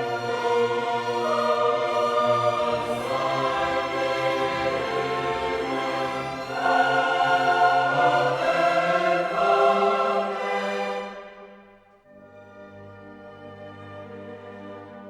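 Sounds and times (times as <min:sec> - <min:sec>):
choir and orchestra music: 0:00.0 - 0:15.0.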